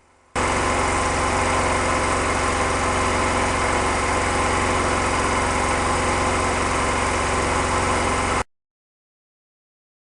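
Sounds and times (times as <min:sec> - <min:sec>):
compressor running with pulsing hum: 0:00.0 - 0:08.5.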